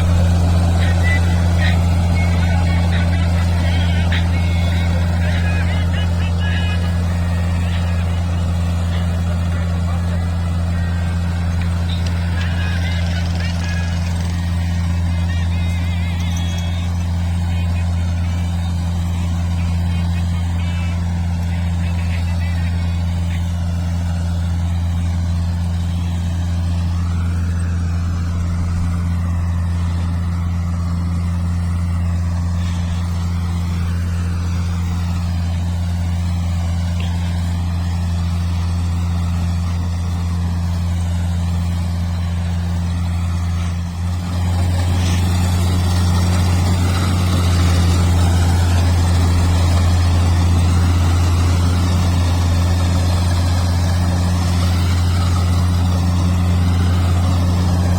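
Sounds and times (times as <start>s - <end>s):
combine harvester engine droning: 0.0s - 57.9s.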